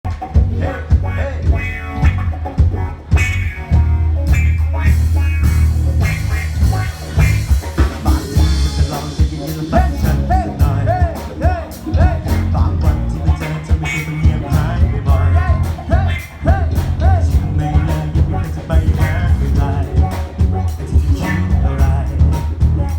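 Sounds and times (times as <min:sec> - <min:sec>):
band playing pop-rock: 0:00.0 - 0:22.9
heavy bass: 0:00.0 - 0:22.9
steady drums: 0:00.0 - 0:22.9
bending melodic figure: 0:00.1 - 0:22.9.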